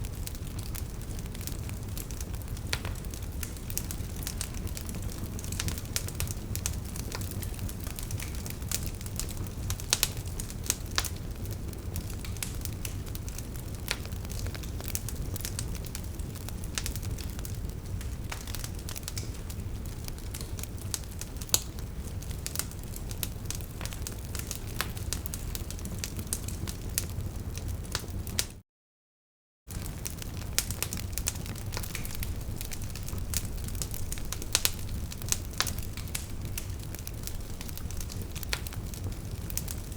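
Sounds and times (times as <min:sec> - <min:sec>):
flames rumbling: 0:00.0 - 0:28.5, 0:29.7 - 0:39.9
wood crackling and popping: 0:00.0 - 0:28.5, 0:29.7 - 0:39.9.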